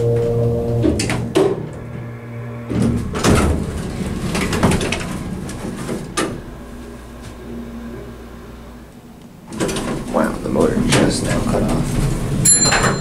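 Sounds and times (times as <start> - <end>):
elevator door clunks: 0.0 - 8.4, 9.3 - 13.0
elevator doors sliding and rattling: 0.0 - 13.0
elevator low hum: 0.0 - 13.0.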